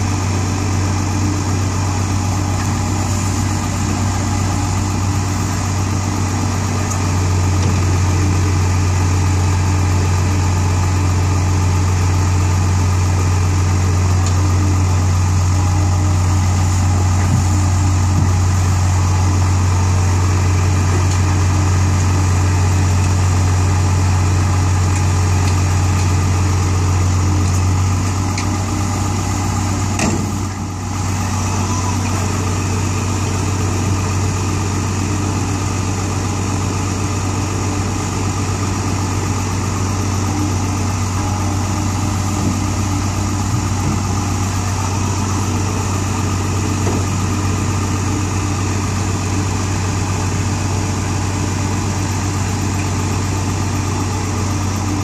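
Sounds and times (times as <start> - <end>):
dump truck diesel engine: 0.0 - 55.0
excavator diesel engine: 0.0 - 55.0.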